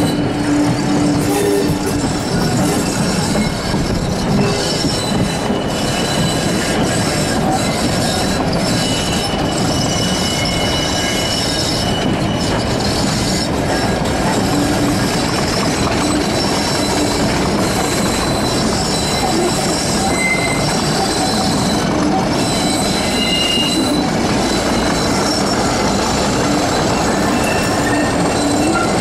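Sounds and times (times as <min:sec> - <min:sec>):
diesel locomotive engine: 0:00.0 - 0:29.0
high-pitched wheel squeal: 0:00.0 - 0:29.0
train wheel noise: 0:00.0 - 0:29.0.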